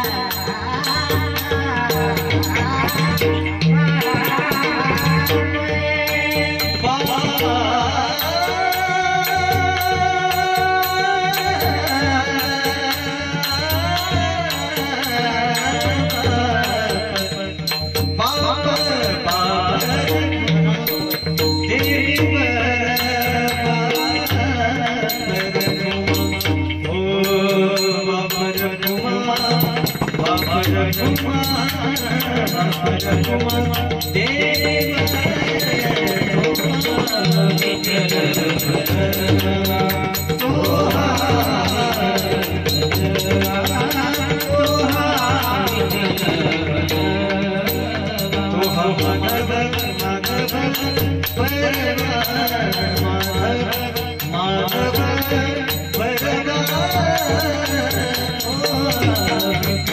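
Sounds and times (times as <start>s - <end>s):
drum playing steady rhythm: 0.0s - 59.9s
hand cymbals clashing: 0.0s - 59.9s
man singing: 0.0s - 59.9s
sustained accompaniment: 0.0s - 59.9s.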